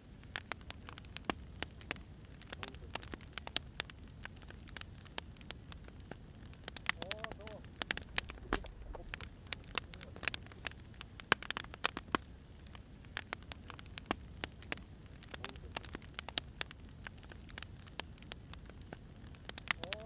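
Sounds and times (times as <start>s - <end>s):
faint low hiss of fire: 0.0s - 20.0s
firewood crackling and popping: 0.0s - 20.0s.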